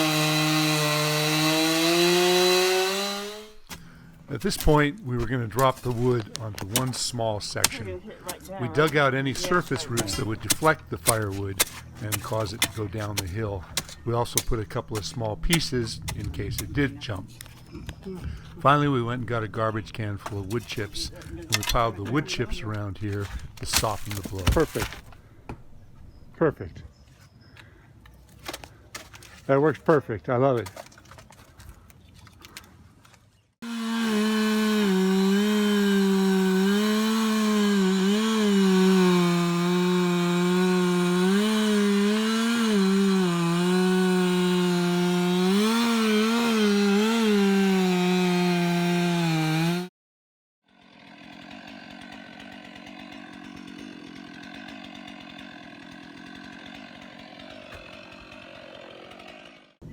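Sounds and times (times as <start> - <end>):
chainsaw cutting wood: 0.0 - 25.2, 33.6 - 49.9, 50.7 - 59.9.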